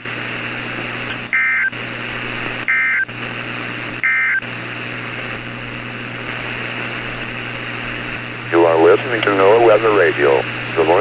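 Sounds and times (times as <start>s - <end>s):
low hum: 0.0s - 11.0s
radio hiss: 0.0s - 11.0s.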